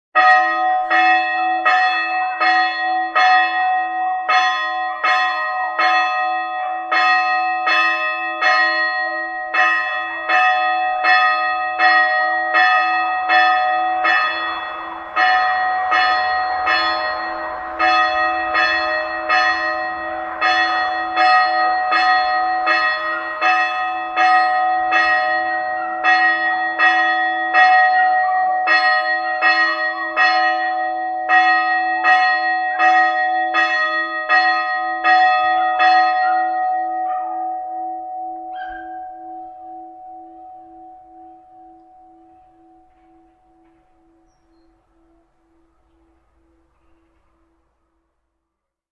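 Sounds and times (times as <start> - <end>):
church bells ringing: 0.2 - 47.8.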